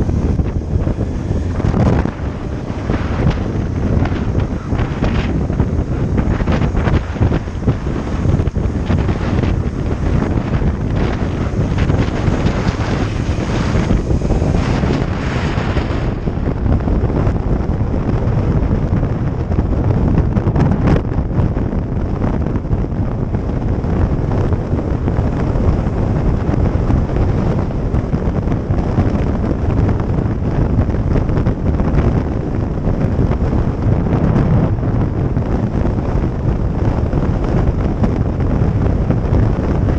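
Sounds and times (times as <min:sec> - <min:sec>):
motorcycle engine: 0:00.0 - 0:39.9
road noise: 0:00.0 - 0:39.9
wind blowing over microphone: 0:00.0 - 0:39.9.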